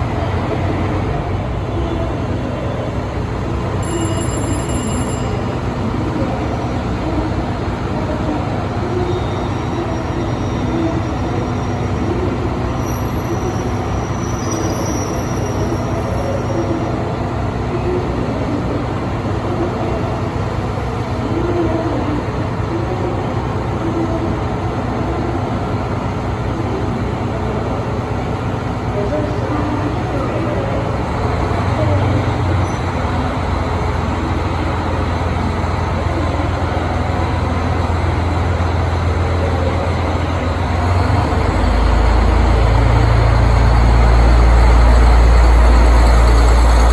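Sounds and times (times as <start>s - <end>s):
diesel train engines idling: 0.0s - 46.9s.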